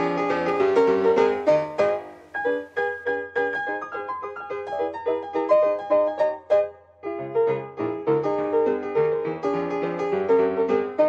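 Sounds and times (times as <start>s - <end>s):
piano quick run of notes: 0.0s - 11.0s.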